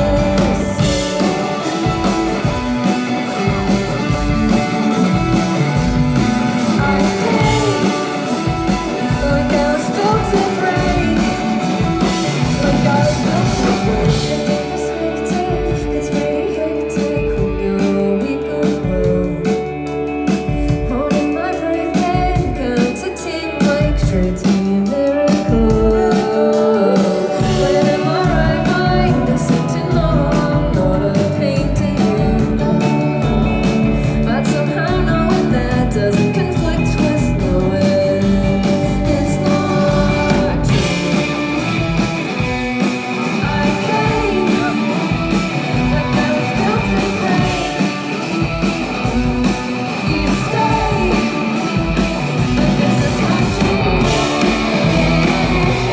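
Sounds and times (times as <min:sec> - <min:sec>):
woman singing: 0:00.0 - 0:05.3, 0:05.9 - 0:55.9
rock band playing live: 0:00.0 - 0:55.9.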